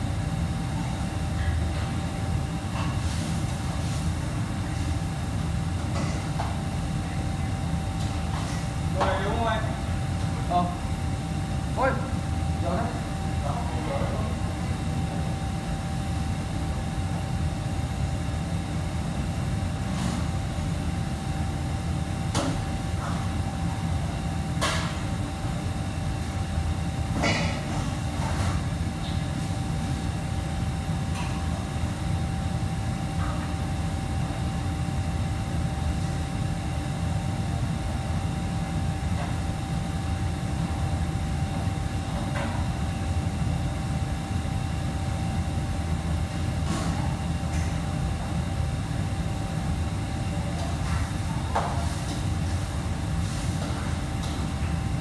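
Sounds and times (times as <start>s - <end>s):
kitchen machinery drone: 0.0s - 55.0s.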